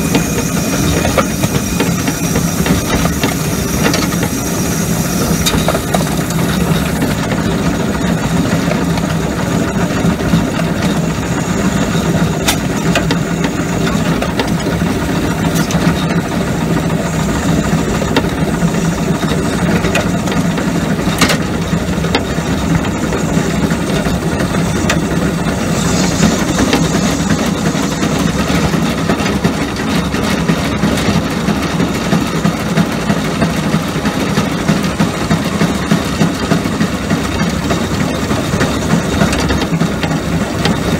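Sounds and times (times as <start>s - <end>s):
steam locomotive running on track: 0.0s - 40.9s.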